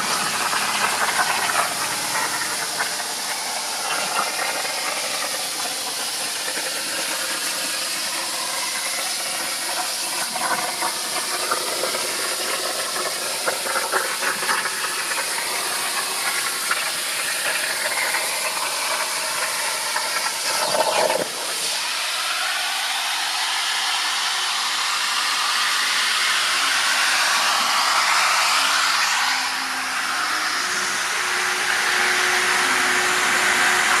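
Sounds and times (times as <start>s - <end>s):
plasma torch arc hissing: 0.0s - 31.7s.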